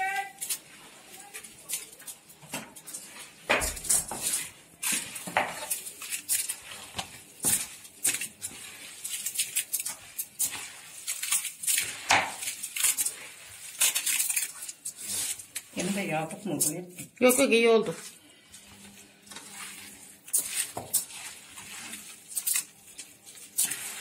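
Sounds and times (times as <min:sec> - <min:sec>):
hands squelching wet stuffing: 0:00.0 - 0:24.0.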